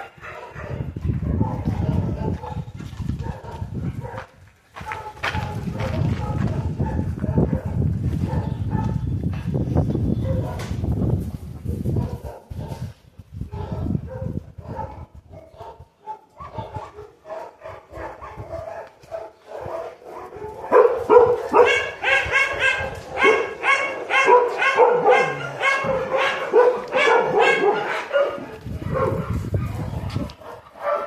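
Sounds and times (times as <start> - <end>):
dog barking: 0.0 - 9.1, 10.2 - 10.7, 11.9 - 12.9, 13.5 - 31.0.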